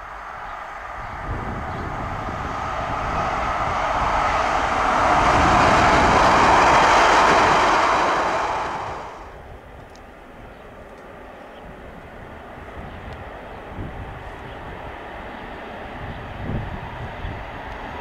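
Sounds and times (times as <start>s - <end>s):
diesel train passing: 0.0s - 18.0s
wheel-on-rail noise: 0.0s - 18.0s.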